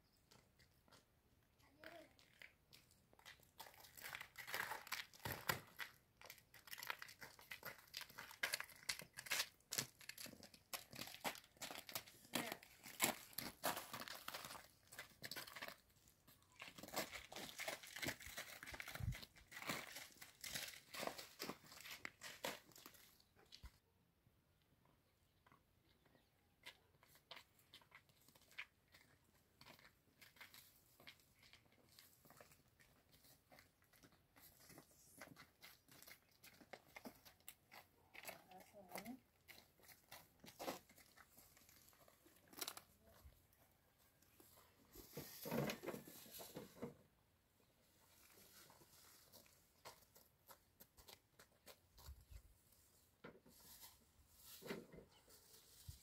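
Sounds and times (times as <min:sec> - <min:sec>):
footsteps crunching on stony path: 0:01.9 - 0:23.7, 0:25.4 - 0:45.8, 0:48.1 - 0:53.0.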